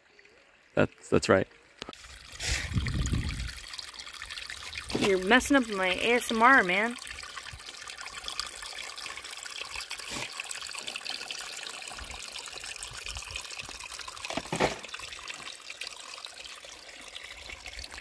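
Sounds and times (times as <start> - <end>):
water trickling over rocks: 0.0 - 18.0.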